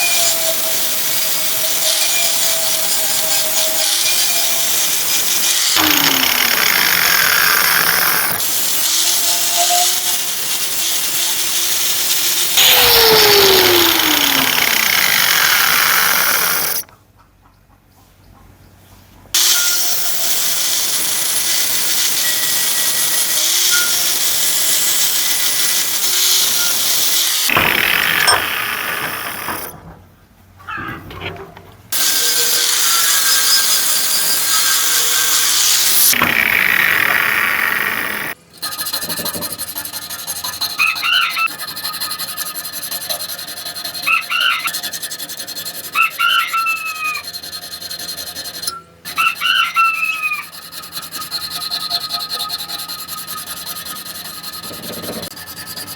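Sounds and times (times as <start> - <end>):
power tool grinding metal: 0.0 - 16.9, 19.4 - 29.8, 31.1 - 55.9
short high squeaks: 0.0 - 16.9, 19.4 - 29.8, 30.6 - 55.9.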